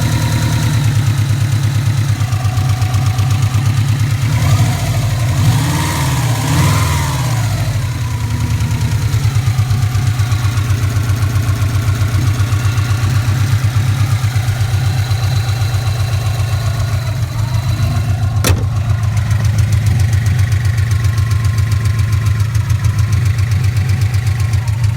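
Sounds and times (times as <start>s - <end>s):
car engine idling with ticking: 0.0s - 24.9s.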